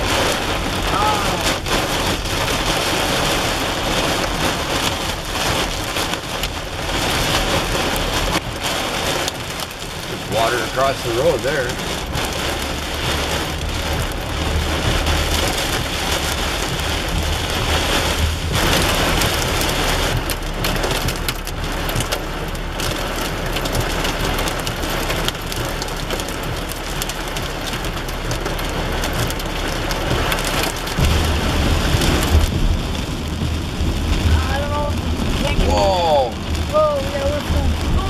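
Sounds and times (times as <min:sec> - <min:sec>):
heavy rain drumming on car roof: 0:00.0 - 0:38.0.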